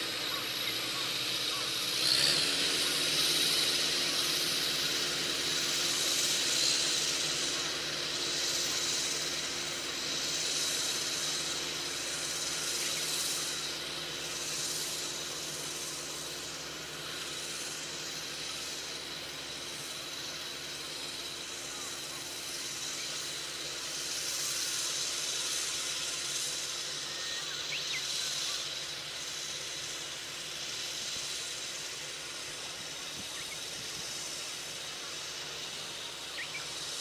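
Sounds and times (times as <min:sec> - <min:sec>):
distant tractor engine running: 0:00.0 - 0:37.0
hiss: 0:00.0 - 0:37.0.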